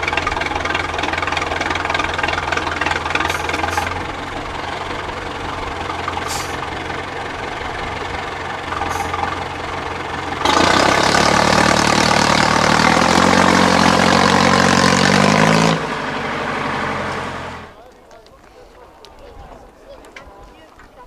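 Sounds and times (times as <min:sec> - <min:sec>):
diesel engine revving under load: 0:00.0 - 0:17.8.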